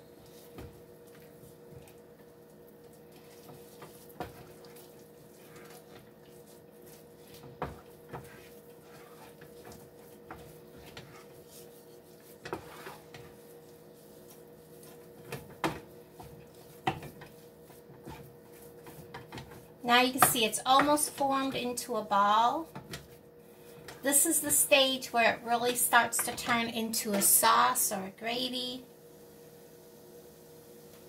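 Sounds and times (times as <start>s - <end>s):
steady low hum: 0.0s - 30.8s
wooden spoon scraping a pan: 0.2s - 28.1s.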